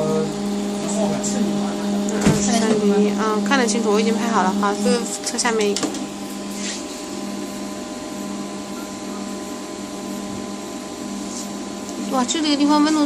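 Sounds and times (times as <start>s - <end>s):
air conditioner whirring and humming: 0.0s - 13.0s.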